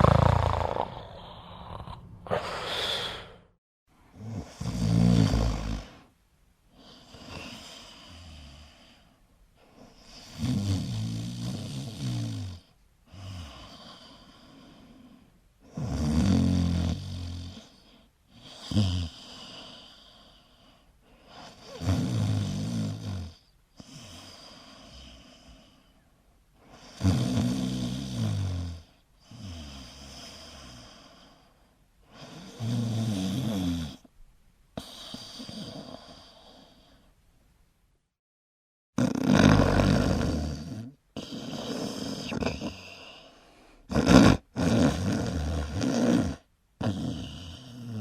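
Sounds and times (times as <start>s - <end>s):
person snoring: 0.0s - 3.6s, 4.2s - 6.1s, 9.9s - 20.5s, 21.4s - 25.8s, 26.7s - 31.4s, 32.1s - 34.1s, 34.8s - 37.0s, 39.0s - 48.0s.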